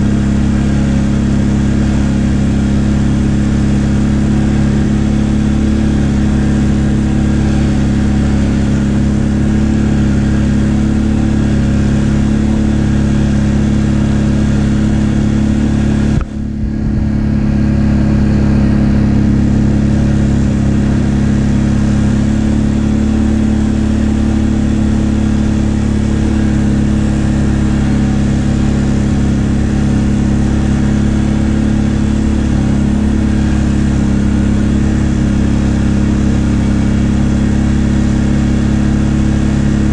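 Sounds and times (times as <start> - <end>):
atv engine running hard: 0.0 - 39.9.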